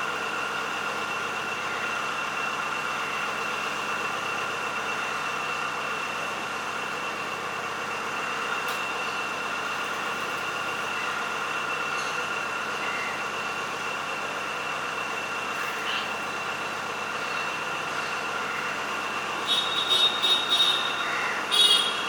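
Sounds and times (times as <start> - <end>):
mechanical hum with high whine: 0.0 - 22.0.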